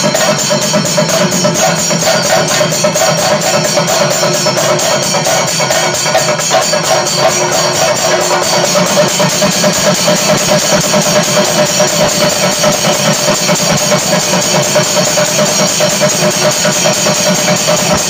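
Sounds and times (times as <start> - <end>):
drums beaten with sticks: 0.0 - 18.0
hand cymbals clashing: 0.0 - 18.0.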